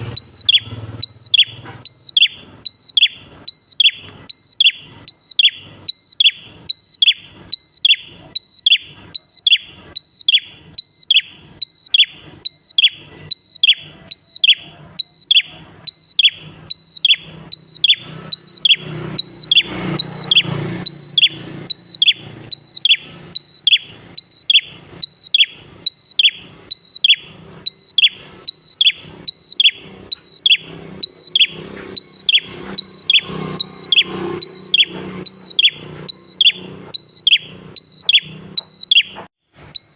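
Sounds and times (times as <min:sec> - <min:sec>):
bird singing high calls: 0:00.0 - 0:39.9.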